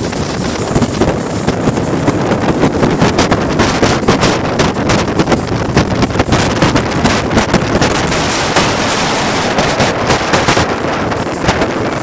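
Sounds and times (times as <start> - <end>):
ferry wake washing: 0.0 - 12.0
wind buffeting microphone: 0.0 - 12.0.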